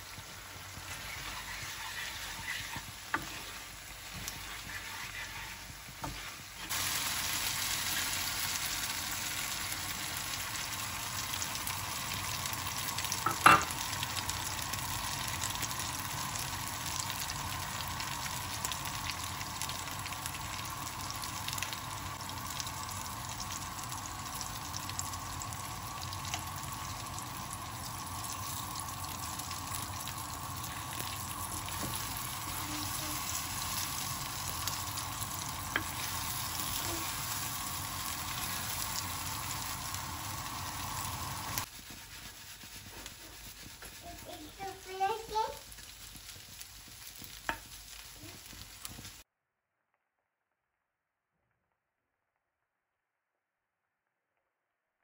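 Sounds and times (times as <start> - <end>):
eggs sizzling in a pan: 0.0 - 49.3.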